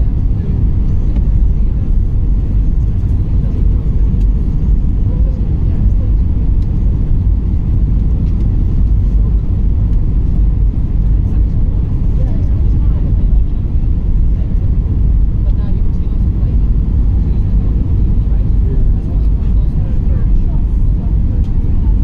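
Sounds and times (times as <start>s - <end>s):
airplane cabin engine roar: 0.0s - 22.0s.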